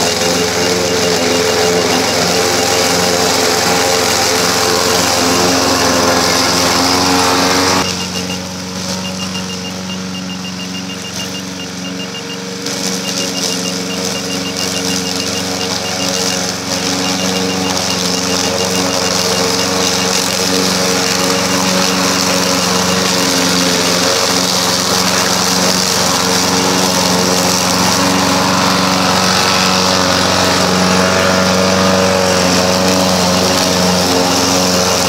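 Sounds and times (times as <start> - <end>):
lawnmower engine running: 0.0 - 35.0.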